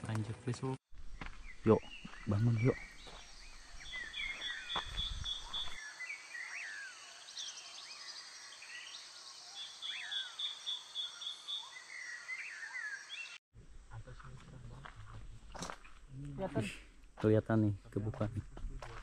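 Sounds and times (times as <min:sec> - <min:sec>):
birds chirping: 0:00.5 - 0:19.0.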